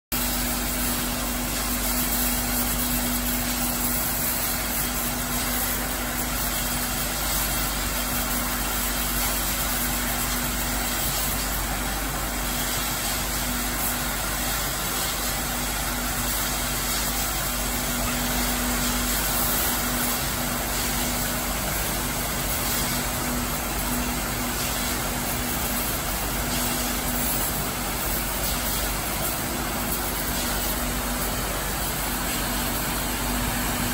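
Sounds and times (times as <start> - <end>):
washing machine rushing noise: 0.1 - 33.9.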